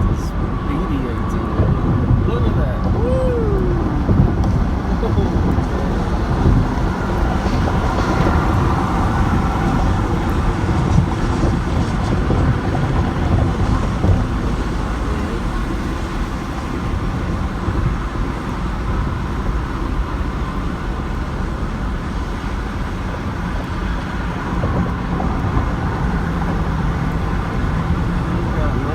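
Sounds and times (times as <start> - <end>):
engine and tyre hum: 0.0 - 28.9.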